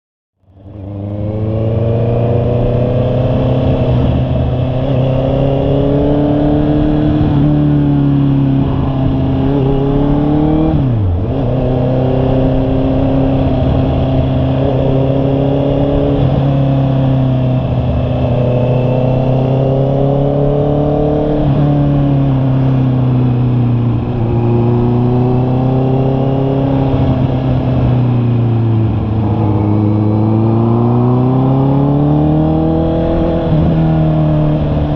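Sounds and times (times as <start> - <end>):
motorcycle engine running: 0.4 - 34.9.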